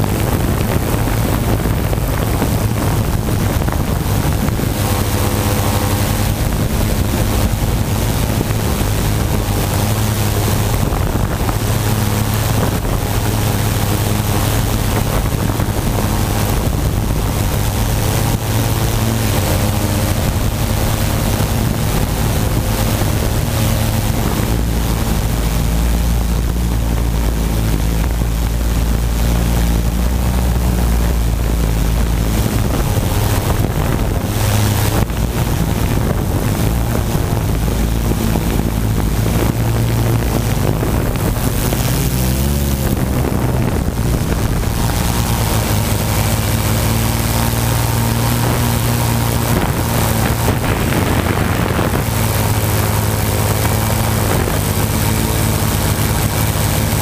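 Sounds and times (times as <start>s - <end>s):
drone propellers whirring: 0.0s - 57.0s
wind rumbling on microphone: 0.0s - 57.0s.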